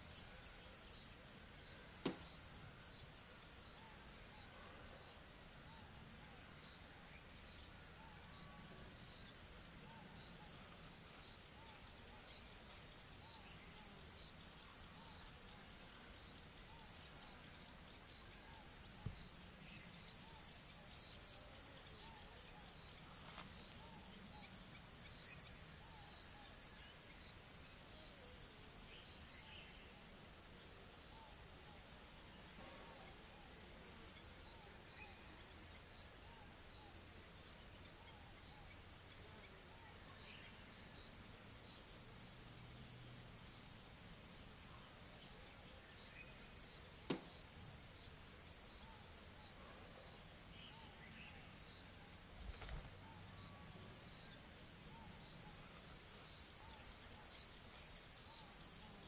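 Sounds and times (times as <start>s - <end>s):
faint low insect chirp: 0.0s - 59.0s
high-pitched insect trill: 0.0s - 59.0s
rapid pulsed cricket chirping: 0.0s - 59.0s.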